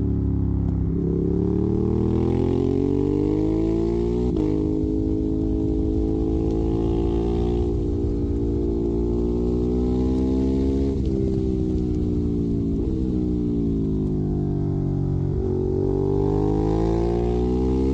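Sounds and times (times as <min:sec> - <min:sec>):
motorcycle engine accelerating: 0:00.0 - 0:17.9.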